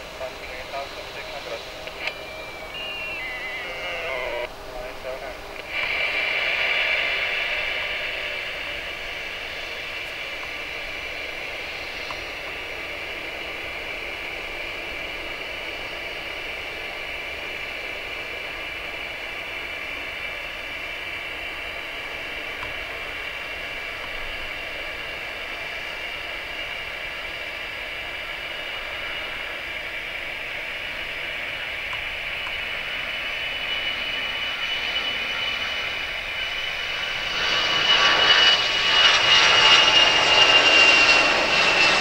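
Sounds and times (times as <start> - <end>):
jet engines whining at taxi power: 0.0 - 42.0.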